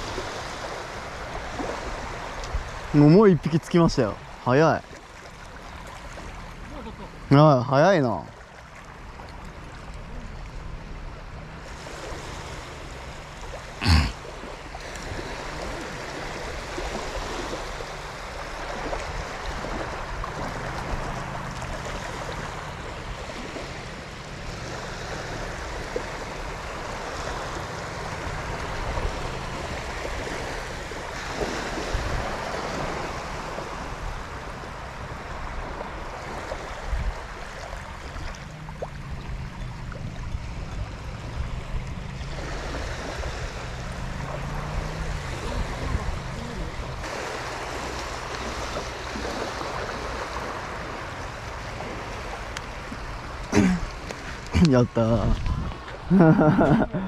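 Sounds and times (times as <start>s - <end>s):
small waves washing on beach: 0.0s - 57.0s.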